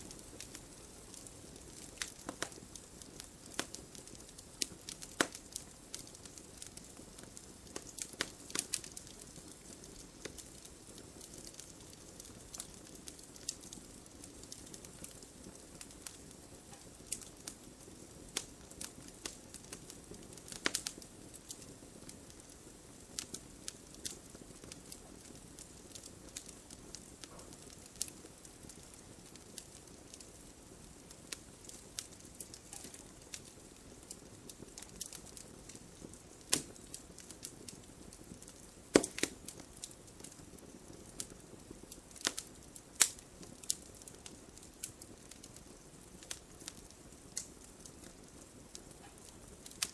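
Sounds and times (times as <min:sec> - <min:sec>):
campfire crackling and popping: 0:00.0 - 0:49.9
soft steady hiss: 0:00.0 - 0:49.9.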